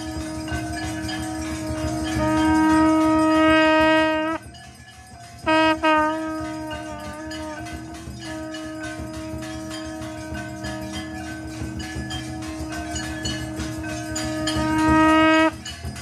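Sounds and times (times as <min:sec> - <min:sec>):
conch shell blowing: 0:00.0 - 0:04.6, 0:05.4 - 0:15.9
bells ringing: 0:00.0 - 0:16.0.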